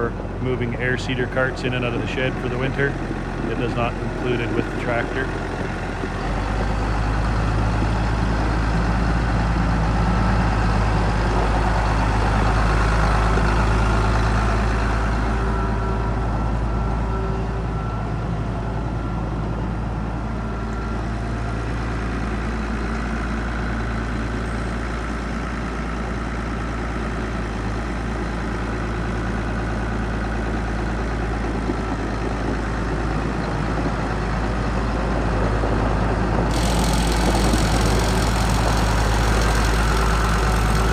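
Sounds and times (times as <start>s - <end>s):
diesel tractor engine idling: 0.0s - 40.9s.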